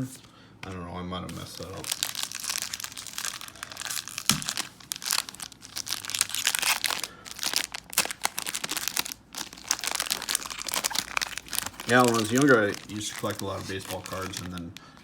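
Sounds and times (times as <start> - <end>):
plastic wrapper crinkling: 1.3 - 15.0.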